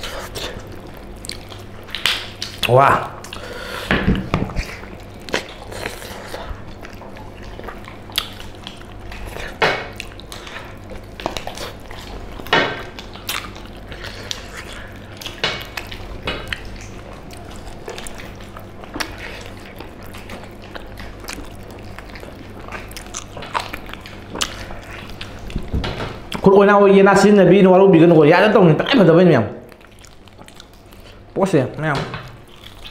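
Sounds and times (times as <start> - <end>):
people eating and chewing: 0.0 - 26.5, 28.0 - 32.9
low steady hum: 0.0 - 32.9.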